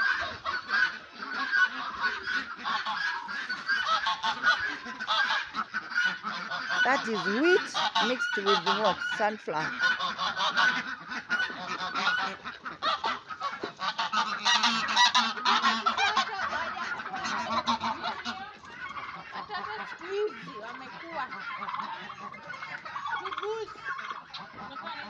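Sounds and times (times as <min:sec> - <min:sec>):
poultry flock calling: 0:00.0 - 0:25.0.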